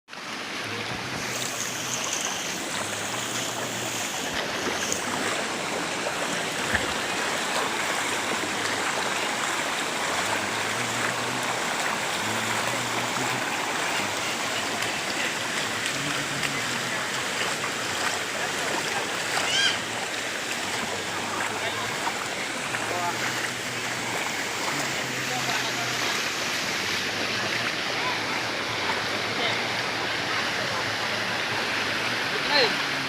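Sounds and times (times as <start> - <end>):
floodwater rushing: 0.1 - 33.0.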